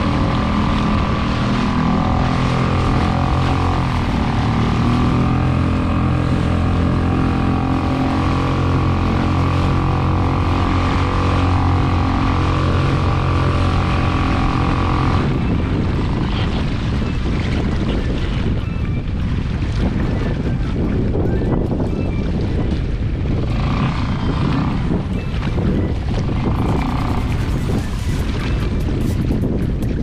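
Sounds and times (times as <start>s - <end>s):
motorboat engine droning: 0.0s - 30.0s
wind and water rushing: 0.0s - 30.0s.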